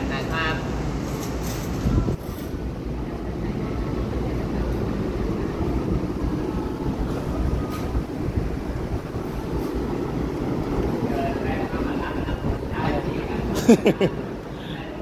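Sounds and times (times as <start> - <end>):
air cooler fan running: 0.0 - 15.0.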